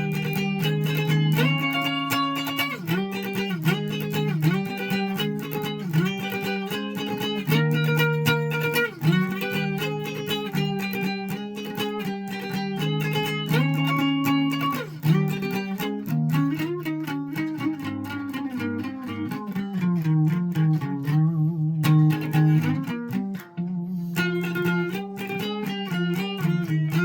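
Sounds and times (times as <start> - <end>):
guitar sustained chords: 0.0 - 27.0.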